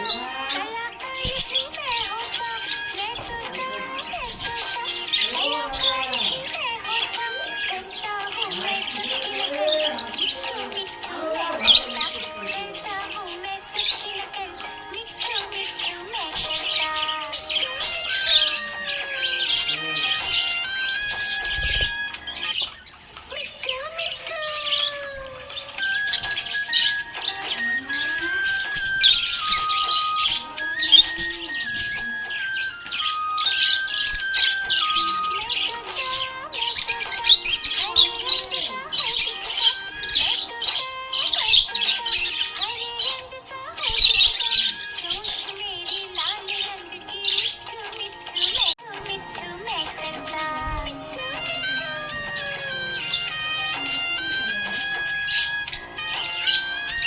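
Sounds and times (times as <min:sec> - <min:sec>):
background music with held notes: 0:00.0 - 0:57.0
budgerigars chirping: 0:00.0 - 0:57.0.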